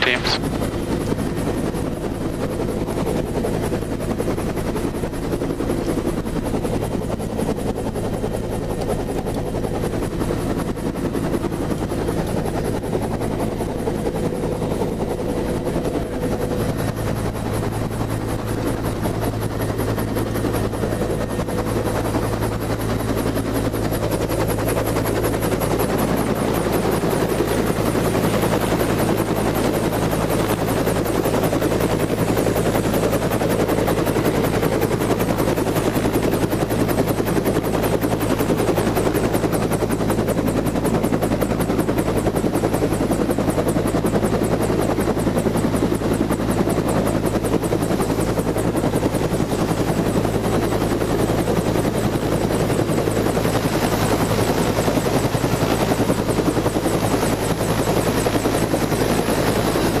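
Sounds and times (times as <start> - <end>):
helicopter engine and rotor: 0.0 - 60.0.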